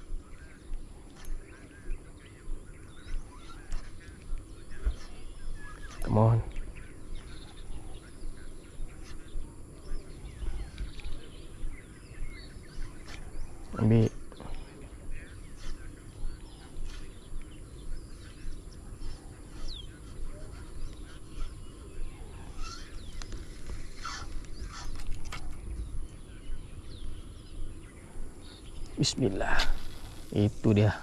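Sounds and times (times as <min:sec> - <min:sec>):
birds chirping and calling: 0:00.0 - 0:31.0.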